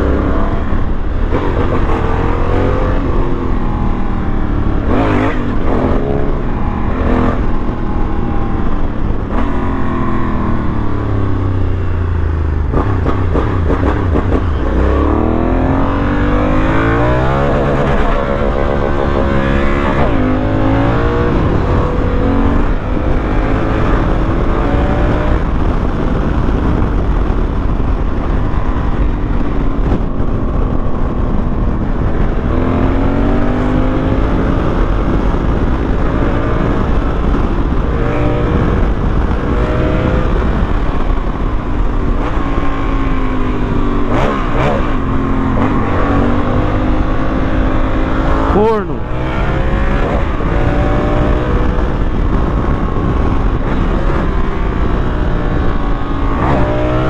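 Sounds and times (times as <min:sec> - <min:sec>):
motorcycle engine accelerating: 0:00.0 - 0:57.0
steady rush of noise: 0:00.0 - 0:57.0.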